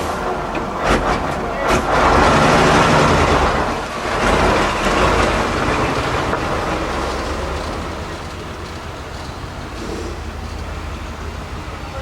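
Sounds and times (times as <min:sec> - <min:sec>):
heavy truck driving past: 0:00.0 - 0:12.0.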